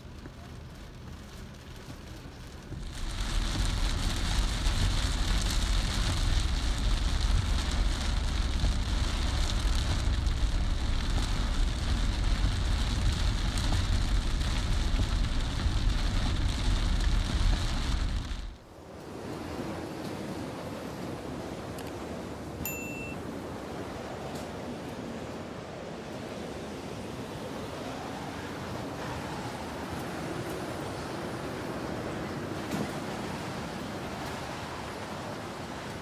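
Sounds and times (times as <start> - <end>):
rushing water: 0.0 - 36.0.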